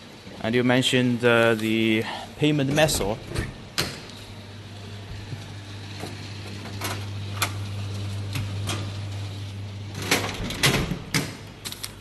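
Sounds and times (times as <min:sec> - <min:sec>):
low motor hum: 0:00.0 - 0:11.7.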